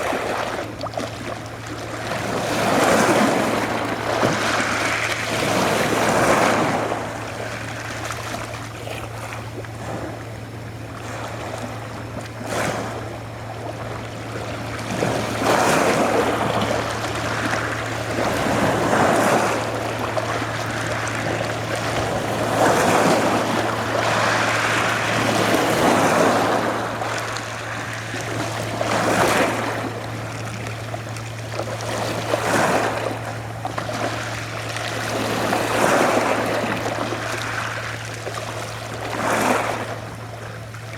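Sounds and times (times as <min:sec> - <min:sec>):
sea waves breaking on shore: 0:00.0 - 0:40.9
steady low hum: 0:00.0 - 0:40.9.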